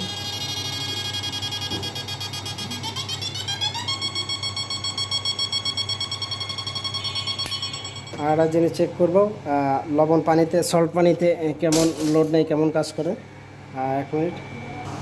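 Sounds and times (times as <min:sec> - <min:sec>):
high pulsing inverter whine: 0:00.0 - 0:14.8.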